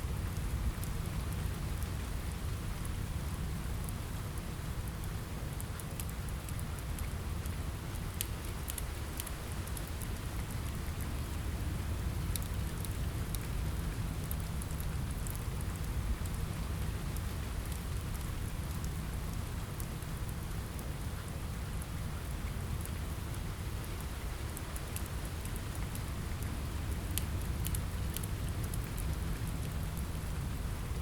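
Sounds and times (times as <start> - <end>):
rain on a window: 0.0 - 31.0.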